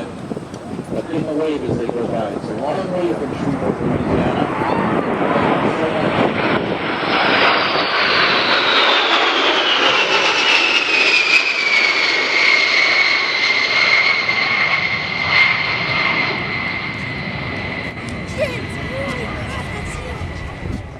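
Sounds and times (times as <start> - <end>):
jet bomber flyby roar: 0.0 - 20.9.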